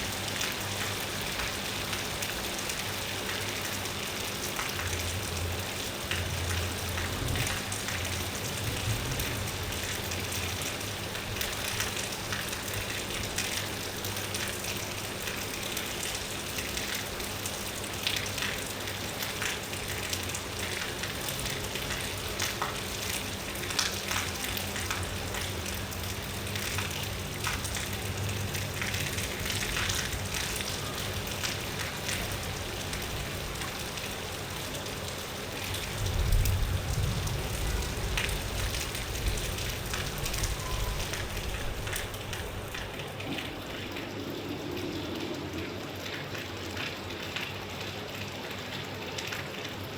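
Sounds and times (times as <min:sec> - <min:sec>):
rain pattering: 0:00.0 - 0:49.9.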